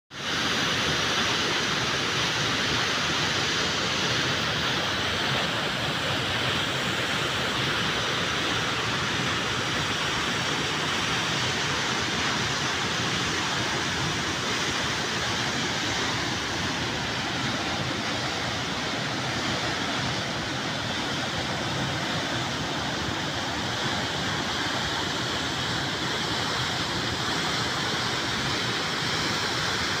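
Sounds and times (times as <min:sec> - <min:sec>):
steady white noise hiss: 0:00.1 - 0:30.0.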